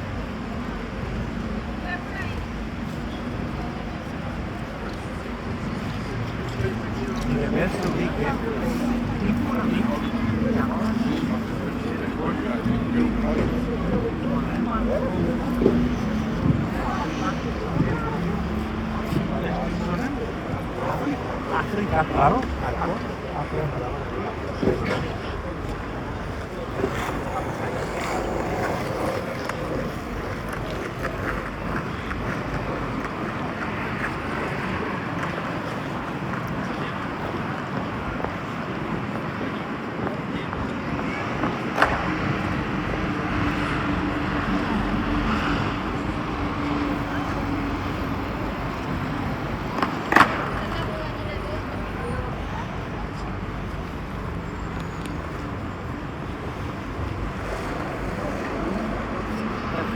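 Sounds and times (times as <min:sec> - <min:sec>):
rushing city street ambience: 0:00.0 - 0:59.9.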